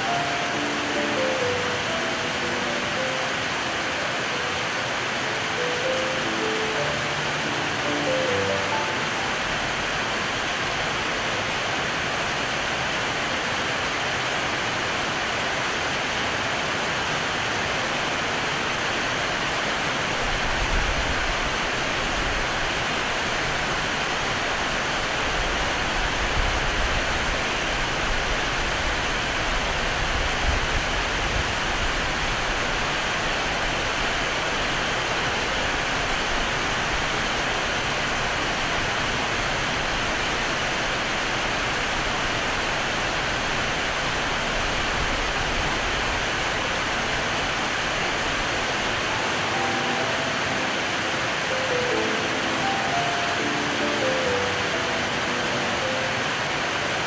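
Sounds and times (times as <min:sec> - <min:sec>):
heavy rain on sheet roofs: 0:00.0 - 0:57.0.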